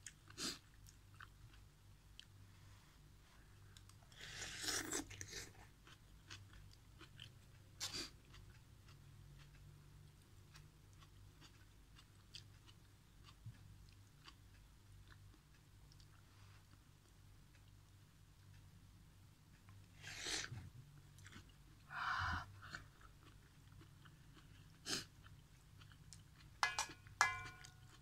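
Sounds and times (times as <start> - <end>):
soft chewing with clicks: 0.0 - 21.9, 22.6 - 28.0.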